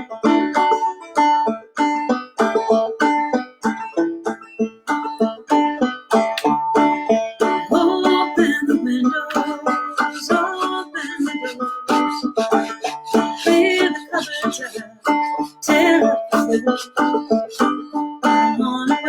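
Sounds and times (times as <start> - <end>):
banjo playing: 0.0 - 19.0.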